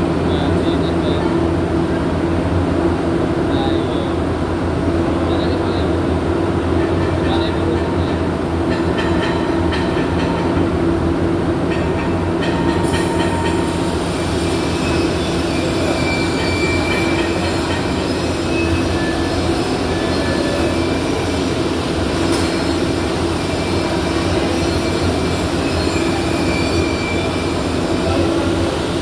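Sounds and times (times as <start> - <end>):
workshop din with low hum: 0.0 - 29.0.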